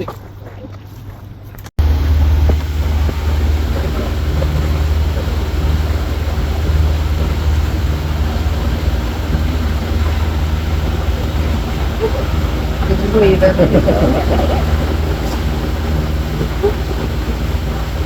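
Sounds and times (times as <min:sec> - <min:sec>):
boat engine droning: 0:01.8 - 0:18.0.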